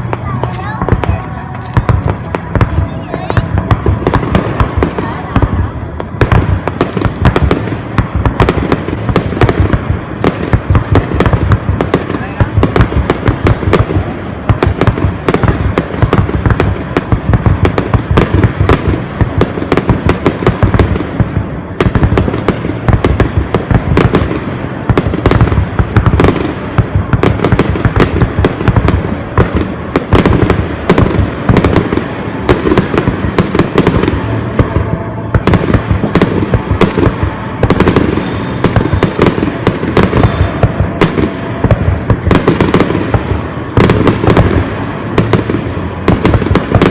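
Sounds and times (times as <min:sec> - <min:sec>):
firework shells bursting: 0:00.0 - 0:46.9.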